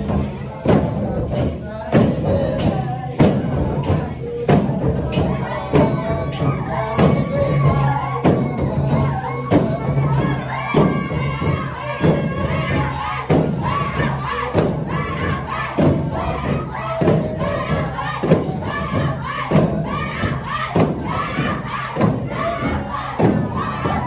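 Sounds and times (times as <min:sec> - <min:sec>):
group of voices singing: 0:00.0 - 0:24.0
hand drums beating: 0:00.0 - 0:24.0.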